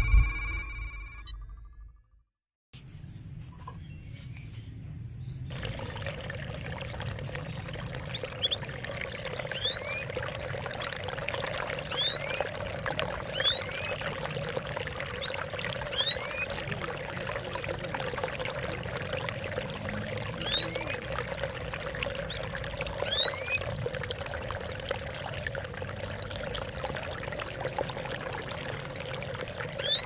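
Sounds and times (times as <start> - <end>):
water trickling and splashing: 5.5 - 30.0.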